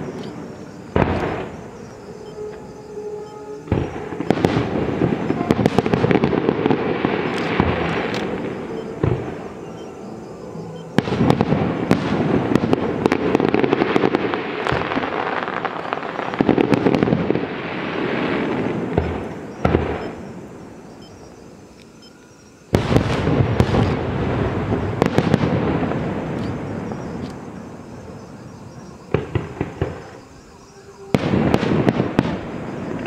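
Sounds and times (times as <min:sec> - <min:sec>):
heavy firework booms: 0:00.0 - 0:01.9, 0:03.6 - 0:09.6, 0:10.9 - 0:20.7, 0:22.7 - 0:33.0.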